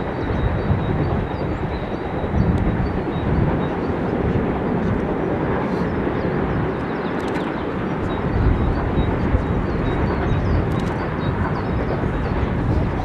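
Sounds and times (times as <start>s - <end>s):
distant steam train rumble: 0.0s - 13.0s.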